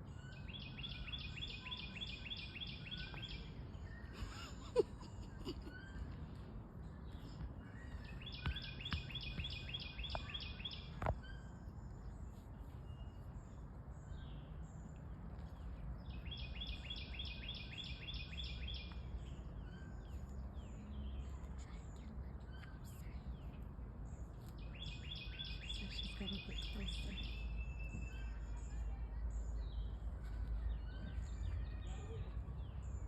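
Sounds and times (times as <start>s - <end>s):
low outdoor rumble: 0.0s - 33.0s
songbird chirping song: 0.0s - 33.0s.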